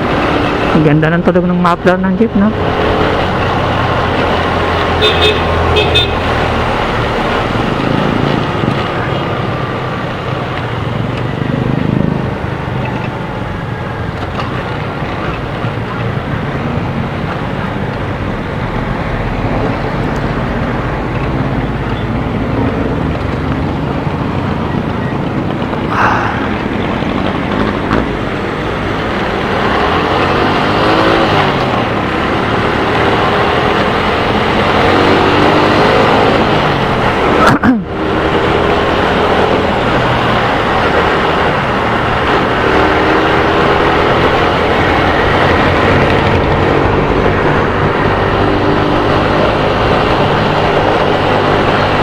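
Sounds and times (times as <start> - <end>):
motorcycle engine accelerating: 0.0 - 52.0
wind and road noise: 0.0 - 52.0.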